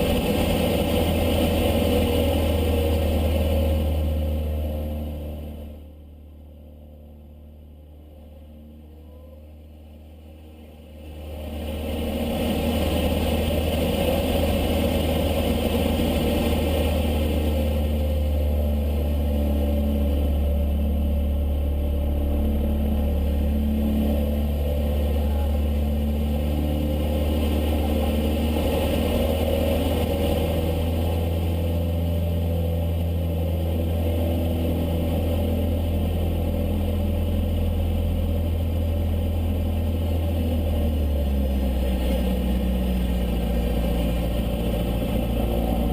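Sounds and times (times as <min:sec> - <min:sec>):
small plane engine drone: 0:00.0 - 0:45.9.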